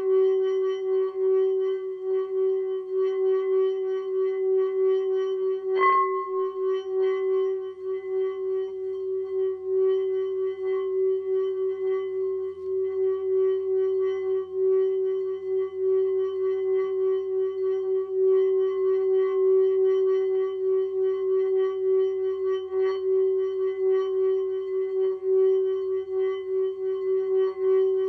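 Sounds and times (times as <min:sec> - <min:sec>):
singing bowl ringing tone: 0:00.0 - 0:28.0.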